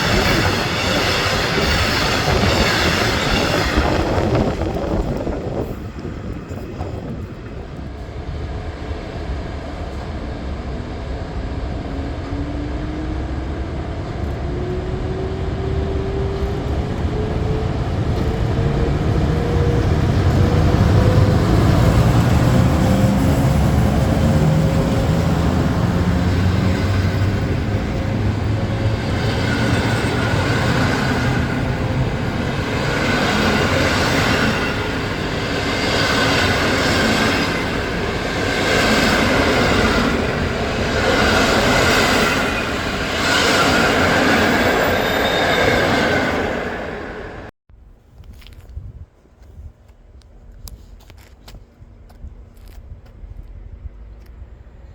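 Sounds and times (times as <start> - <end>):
low rumble of train: 0.0 - 54.9.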